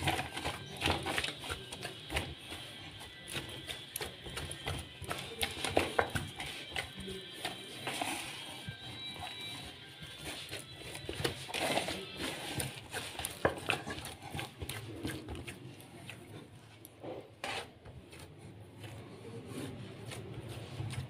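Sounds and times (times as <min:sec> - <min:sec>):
dough squelches and slaps: 0:00.0 - 0:21.0.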